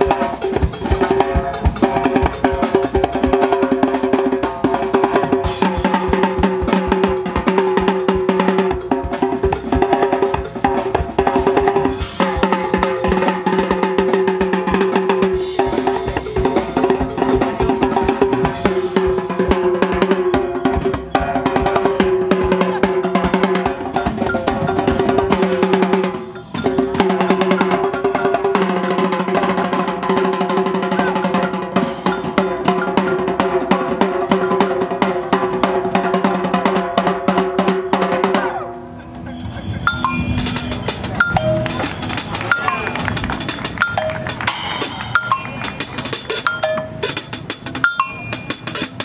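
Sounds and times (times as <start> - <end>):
hand drums: 0.0 - 38.6, 39.9 - 49.0
drum kit: 0.0 - 38.7, 39.9 - 49.0
drum played with sticks: 0.0 - 38.7, 39.9 - 49.0.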